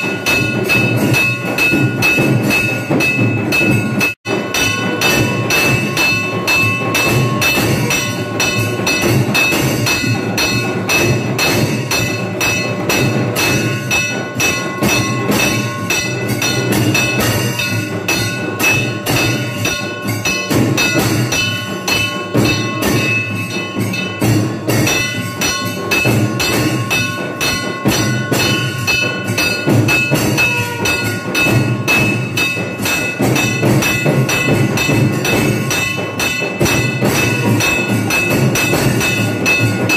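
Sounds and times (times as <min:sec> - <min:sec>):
drums beating fast rhythm: 0:00.0 - 0:39.9
temple bells ringing: 0:00.0 - 0:39.9.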